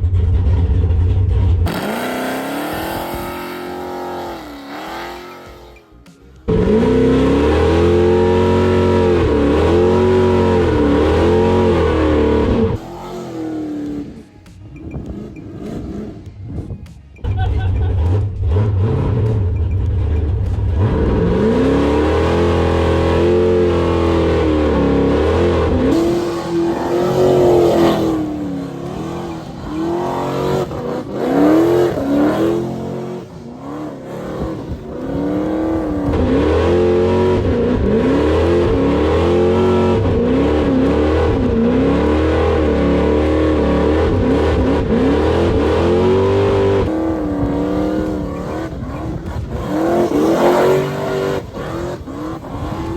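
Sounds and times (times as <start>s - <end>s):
car engine revving hard: 0.0s - 14.3s, 14.9s - 16.6s, 17.6s - 52.9s.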